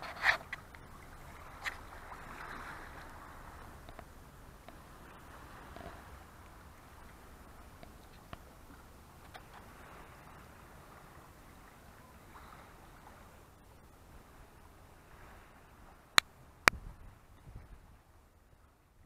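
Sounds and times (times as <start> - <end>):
waves lapping on rocky shore: 0.0 - 18.5.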